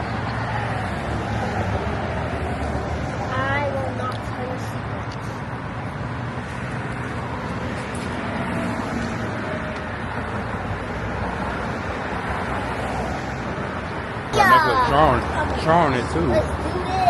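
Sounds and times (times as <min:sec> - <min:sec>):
traffic rumble and hiss: 0:00.0 - 0:17.0.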